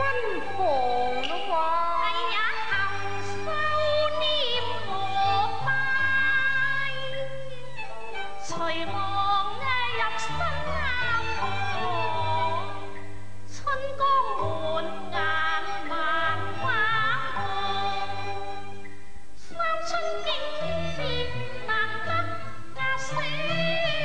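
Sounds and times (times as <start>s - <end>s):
opera singing: 0.0s - 18.6s, 19.5s - 24.0s
instrumental accompaniment: 0.0s - 24.0s.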